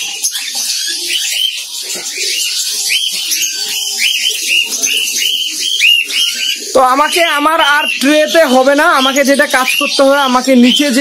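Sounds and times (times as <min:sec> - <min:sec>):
cockatiels calling shrilly: 0:00.0 - 0:11.0.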